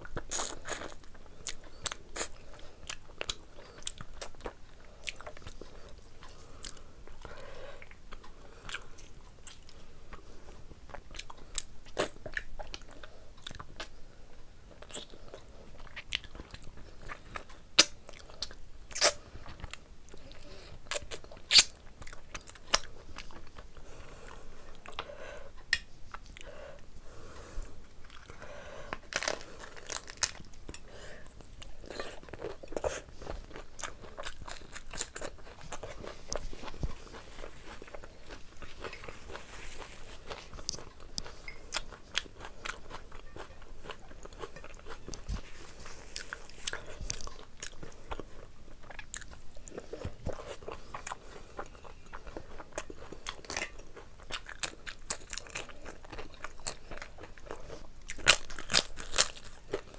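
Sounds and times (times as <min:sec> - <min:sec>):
chewing and crunching: 0:00.0 - 0:14.0, 0:14.7 - 0:25.1, 0:27.8 - 0:59.9.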